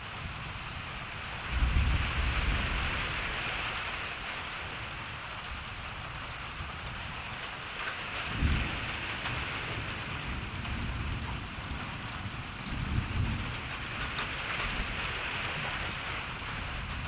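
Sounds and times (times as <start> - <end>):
rain hissing: 0.0 - 17.0
thunder rumbling: 1.3 - 17.0.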